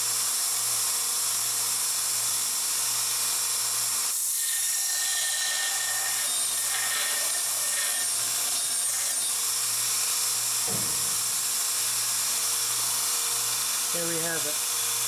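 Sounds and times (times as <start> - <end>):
belt grinder running: 0.0 - 15.0.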